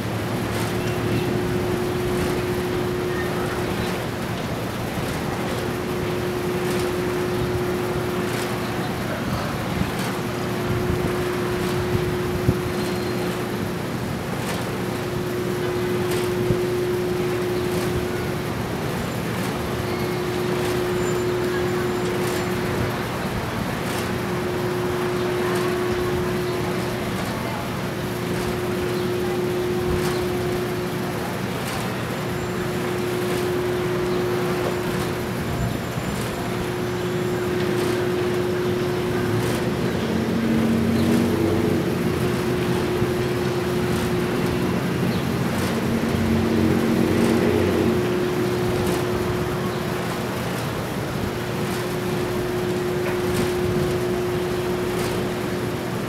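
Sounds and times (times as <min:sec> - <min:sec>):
city traffic hum: 0:00.0 - 0:56.0.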